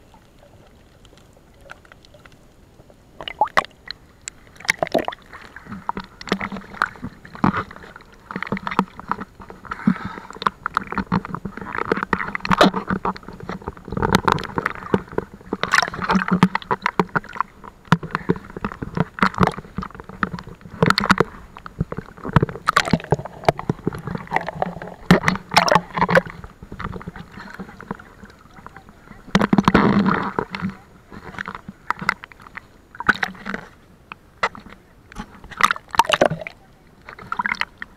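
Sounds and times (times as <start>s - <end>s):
faint low hum: 0.0s - 37.9s
seawater splashing and gurgling: 0.0s - 37.9s
water slaps and bubbling: 0.0s - 37.9s.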